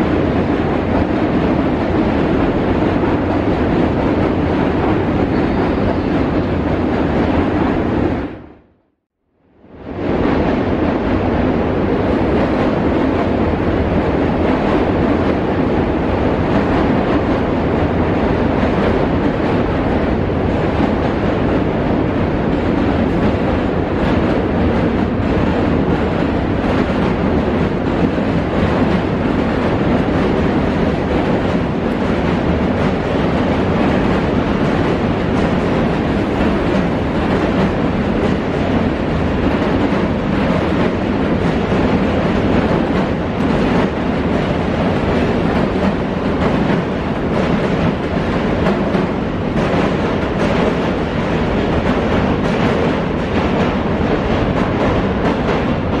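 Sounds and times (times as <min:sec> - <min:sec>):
subway train rumbling over steel bridge: 0:00.0 - 0:56.0.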